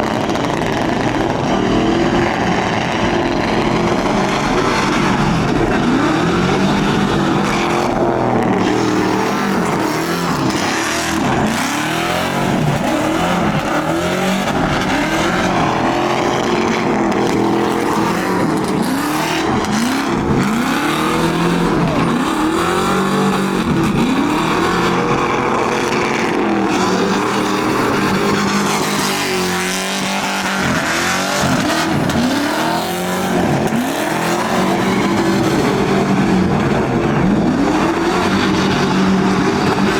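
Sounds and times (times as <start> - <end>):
tire squeal: 0.0 - 39.9
truck engine revving: 0.0 - 39.9.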